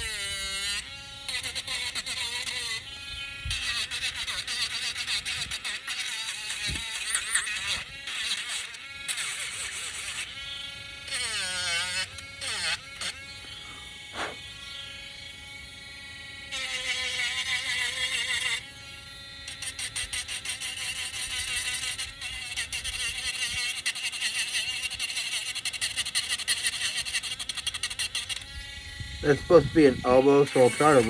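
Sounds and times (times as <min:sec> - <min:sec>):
electric sander buzzing on wood: 0:00.0 - 0:31.0.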